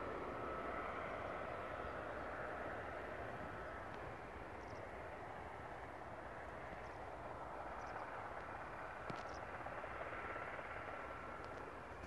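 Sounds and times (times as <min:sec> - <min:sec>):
distant helicopter rushing: 0:00.0 - 0:12.0.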